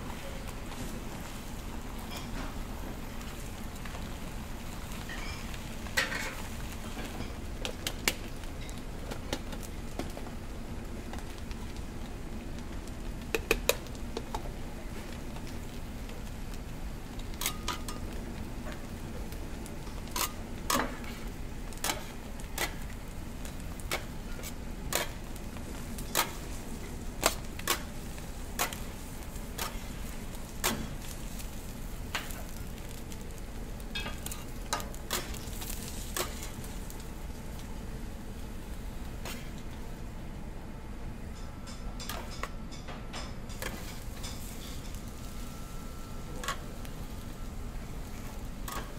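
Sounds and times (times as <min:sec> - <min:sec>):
egg sizzling on a griddle: 0:00.0 - 0:42.6, 0:43.2 - 0:48.9.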